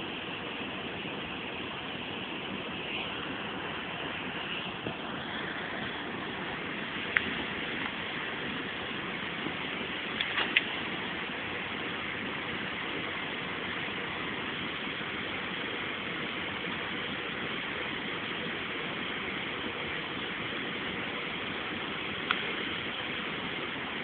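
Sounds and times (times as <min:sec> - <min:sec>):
campfire hissing: 0:00.0 - 0:24.0
sharp fire crack: 0:00.0 - 0:24.0.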